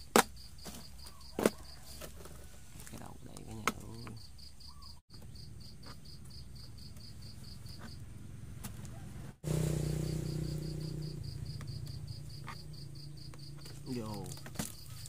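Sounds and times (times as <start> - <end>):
insect chirping: 0.2 - 1.9, 3.6 - 8.6, 9.4 - 15.0.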